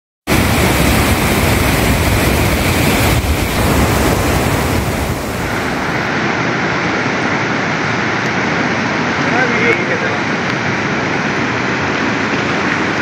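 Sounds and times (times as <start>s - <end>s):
water rushing over spillway: 0.3s - 13.0s
water surging through sluice gates: 0.3s - 13.0s.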